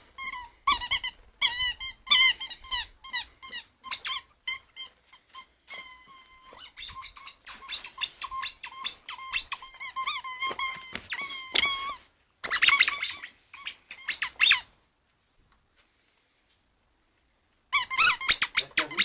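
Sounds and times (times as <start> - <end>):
squeaky dog toy squeaking: 0.1 - 14.7, 17.7 - 19.0.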